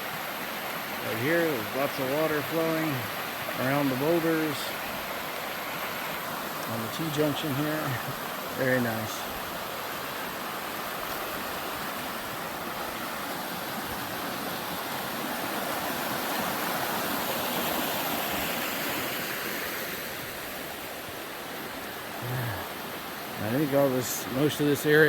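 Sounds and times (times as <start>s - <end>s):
river water rushing around boulders: 0.0s - 25.0s.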